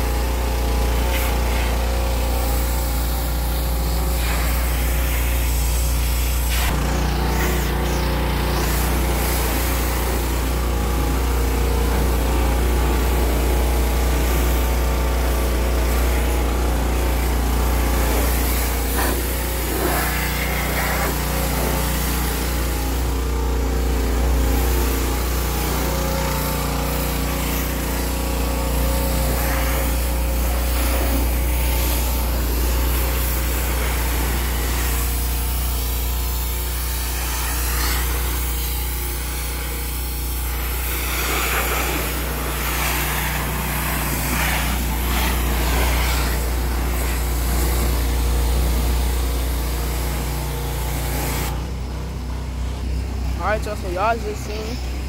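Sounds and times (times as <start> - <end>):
pressure washer spraying: 0.0 - 55.0.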